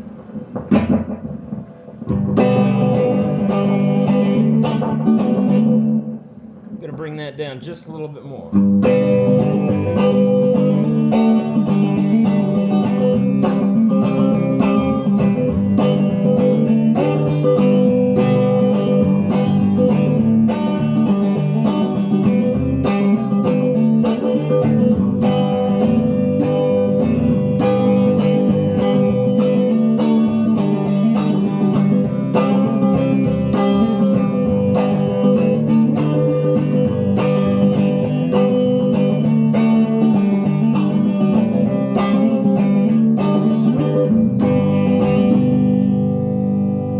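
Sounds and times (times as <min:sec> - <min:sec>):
electric guitar with echo: 0:00.0 - 0:46.9.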